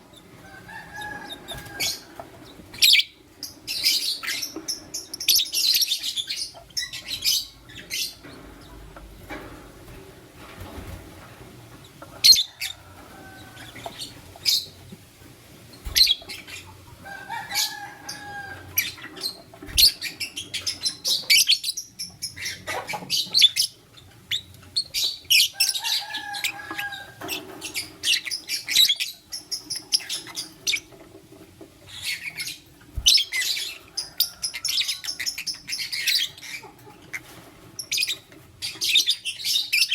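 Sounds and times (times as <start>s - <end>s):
lovebirds chirping: 0.0s - 8.8s, 11.9s - 15.0s, 15.7s - 31.0s, 31.8s - 39.9s.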